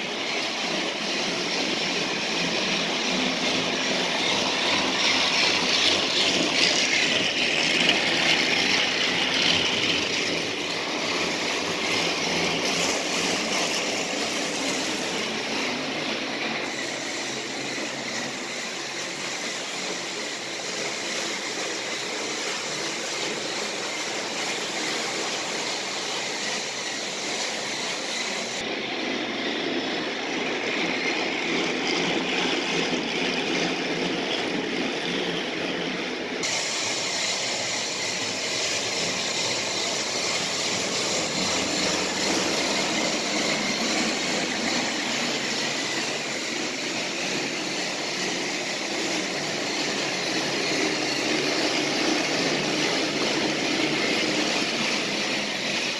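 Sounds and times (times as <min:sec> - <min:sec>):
toy train motor whirring: 0:00.0 - 0:28.6, 0:29.6 - 0:55.9.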